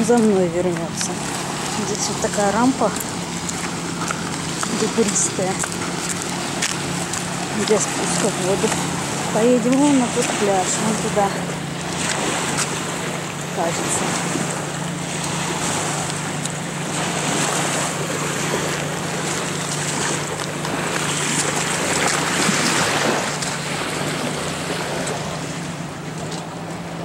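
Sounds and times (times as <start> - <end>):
jet ski engine humming: 0.0 - 27.0.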